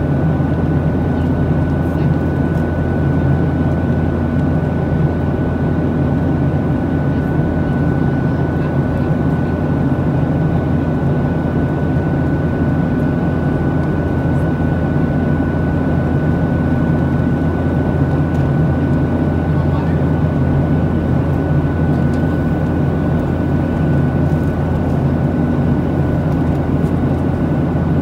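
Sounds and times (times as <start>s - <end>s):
jet engines and airflow roar: 0.0s - 28.0s.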